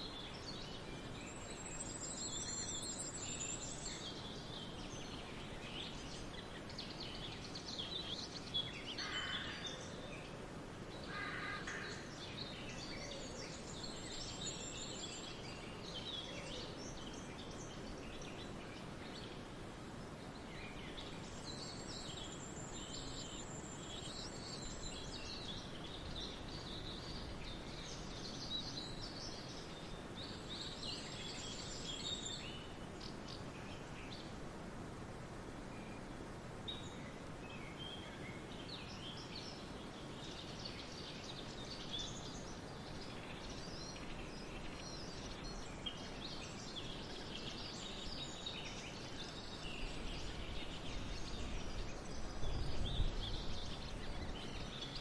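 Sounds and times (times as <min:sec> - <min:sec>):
forest birds chirping and singing: 0:00.0 - 0:55.0
steady background hiss: 0:00.0 - 0:55.0.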